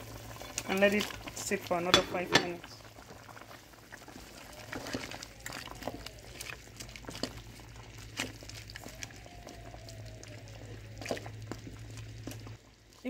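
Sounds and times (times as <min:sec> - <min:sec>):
low steady hum: 0:00.0 - 0:13.0
wooden spoon stirring a pot: 0:00.0 - 0:13.0.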